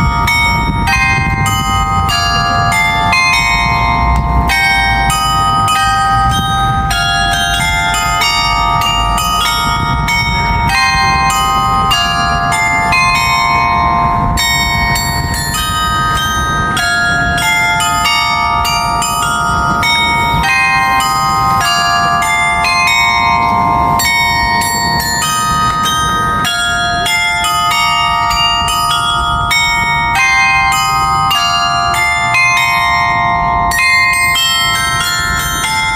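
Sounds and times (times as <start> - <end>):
carillon bells playing a tune: 0.0 - 35.9.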